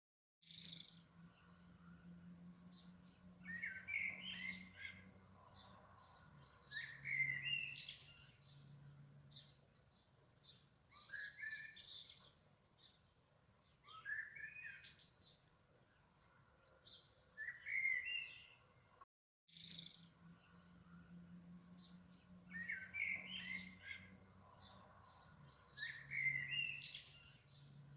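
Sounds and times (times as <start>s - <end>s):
small birds chirping: 0.4s - 18.9s, 19.5s - 27.9s
warbled bird song: 0.4s - 27.9s.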